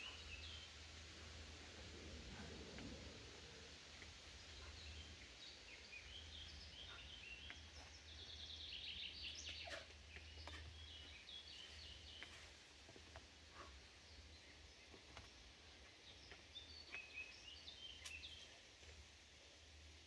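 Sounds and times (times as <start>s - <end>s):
faint birdsong: 0.0s - 20.0s
low steady hum: 0.0s - 20.0s.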